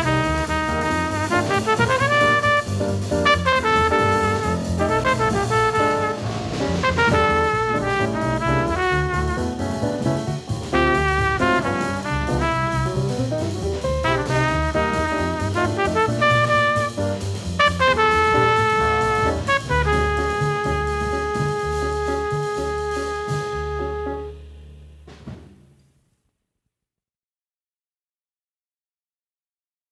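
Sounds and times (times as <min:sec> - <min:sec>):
trumpet playing jazz: 0:00.0 - 0:24.9
bass and drums: 0:00.0 - 0:25.8.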